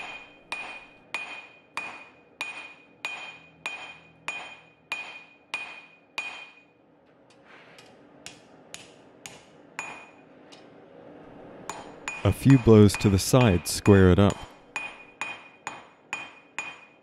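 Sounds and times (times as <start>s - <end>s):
hammer striking anvil ringing: 0.0s - 6.8s, 8.3s - 10.3s, 11.7s - 17.0s.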